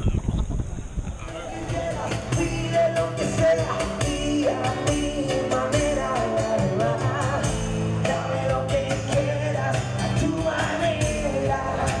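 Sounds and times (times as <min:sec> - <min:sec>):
man singing into a microphone: 0:01.3 - 0:12.0
strummed acoustic guitar: 0:01.3 - 0:12.0
steady percussion beat: 0:01.6 - 0:12.0.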